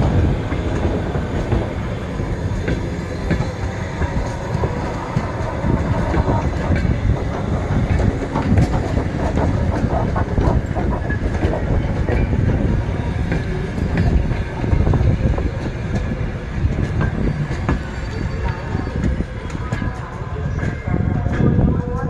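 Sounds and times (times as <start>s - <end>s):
train rumbling on tracks: 0.0s - 22.0s
wheels clicking on rails: 0.0s - 22.0s.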